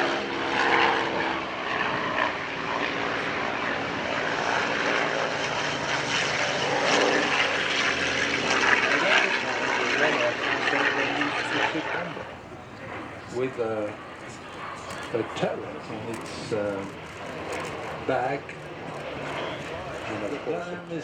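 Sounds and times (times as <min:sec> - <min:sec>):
propeller plane flying past: 0:00.0 - 0:21.0.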